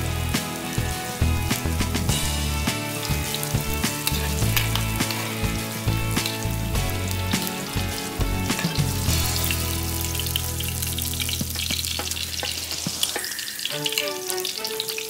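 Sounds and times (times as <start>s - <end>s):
tofu sizzling in oil: 0.0s - 15.0s.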